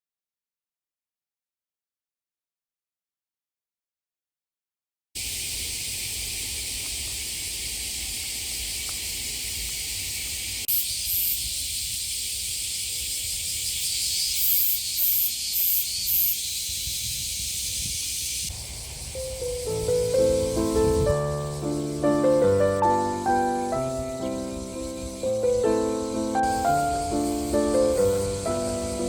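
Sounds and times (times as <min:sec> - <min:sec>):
cicadas buzzing: 0:05.2 - 0:29.0.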